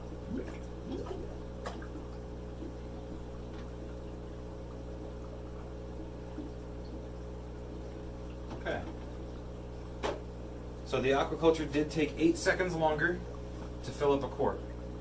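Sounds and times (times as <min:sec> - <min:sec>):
water bubbling: 0:00.0 - 0:10.9, 0:12.6 - 0:13.8
aquarium air pumps humming: 0:00.0 - 0:15.0.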